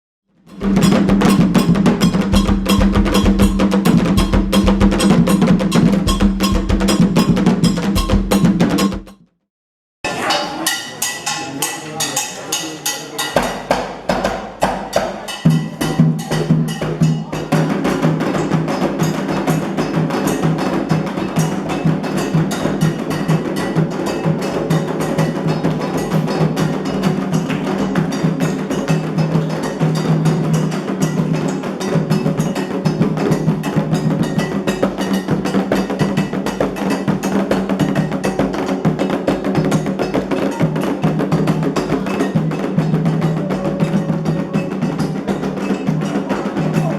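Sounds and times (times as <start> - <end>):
ceremonial drumming: 0.5 - 9.2, 10.1 - 46.9.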